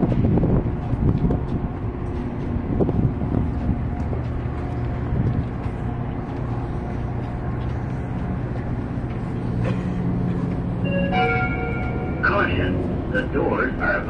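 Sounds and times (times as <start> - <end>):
diesel train idling hum: 0.0 - 14.0.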